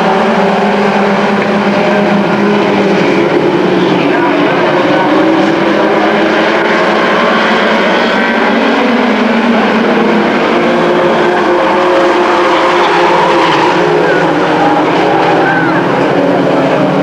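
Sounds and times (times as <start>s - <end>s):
race truck engines running: 0.0s - 17.0s.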